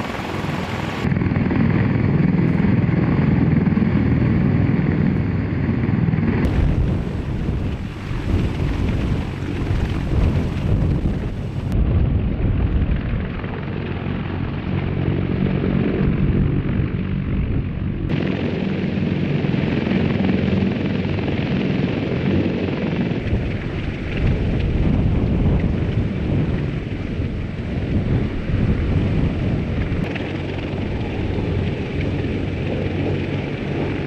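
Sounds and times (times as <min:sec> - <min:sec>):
helicopter rotor and turbine din: 0:00.0 - 0:34.0.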